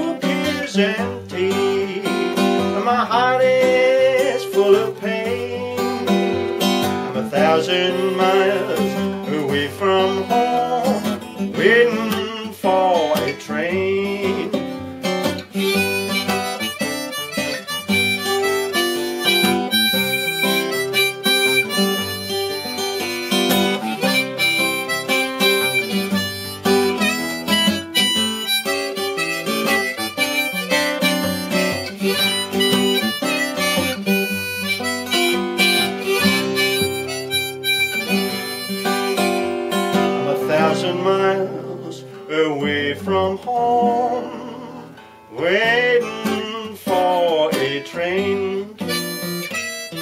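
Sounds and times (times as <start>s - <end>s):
harmonica playing: 0.0s - 12.3s, 13.8s - 41.6s, 48.2s - 50.0s
acoustic guitar accompaniment: 0.0s - 50.0s.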